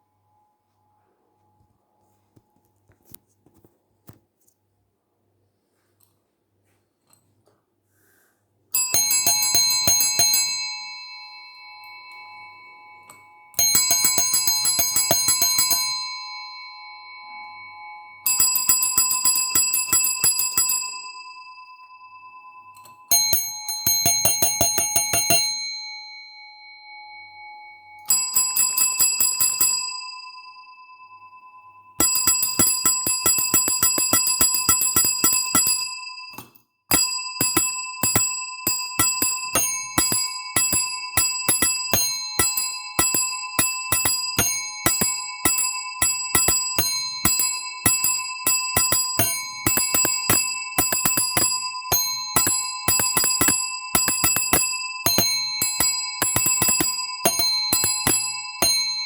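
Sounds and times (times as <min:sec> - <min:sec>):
small metal bell ringing in trills: 0:08.8 - 0:59.0.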